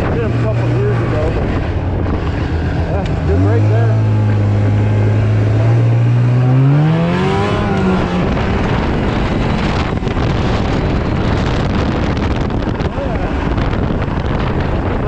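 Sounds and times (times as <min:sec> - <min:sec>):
heavy wind noise: 0:00.0 - 0:15.0
snowmobile engine revving: 0:00.0 - 0:15.0
snowmobile track noise: 0:00.0 - 0:15.0.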